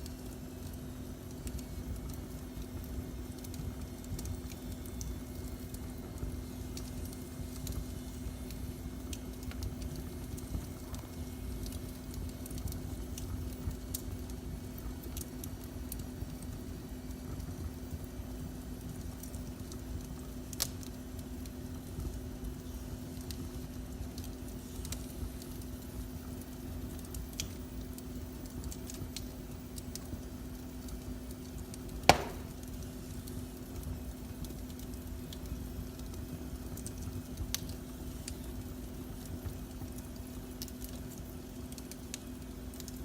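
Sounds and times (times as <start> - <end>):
faint constant hum: 0.0 - 43.0
wood fire crackling and popping: 0.0 - 43.0.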